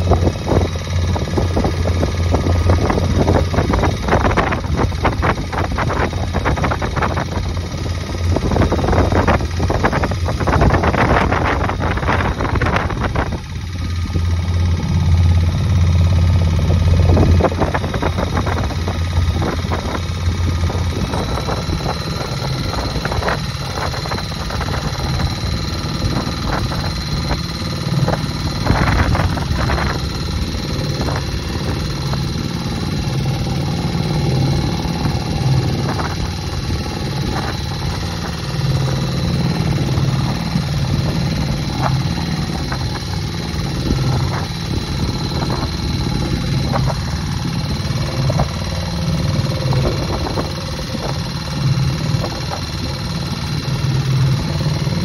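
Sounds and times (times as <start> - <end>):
boat engine running: 0.0 - 55.0
thin high whine: 0.0 - 55.0.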